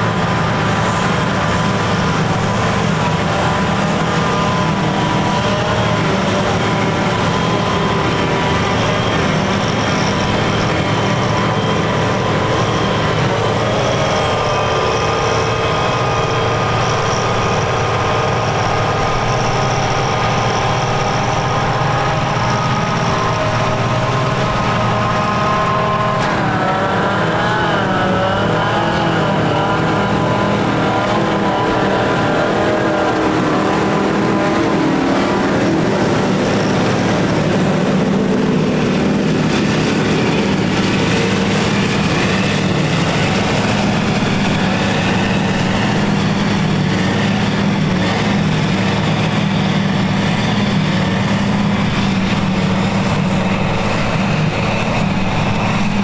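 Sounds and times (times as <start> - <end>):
forage harvester running under load: 0.0 - 56.0
tractor running: 0.0 - 56.0.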